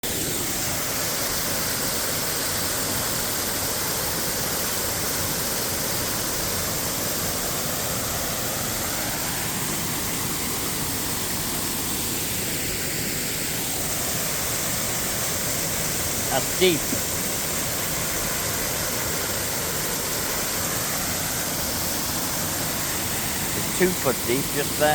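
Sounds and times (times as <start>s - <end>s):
waterfall roaring: 0.1s - 24.9s.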